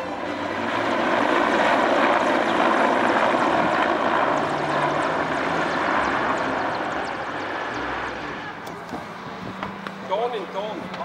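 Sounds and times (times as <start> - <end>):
helicopters flying overhead: 0.0 - 11.0.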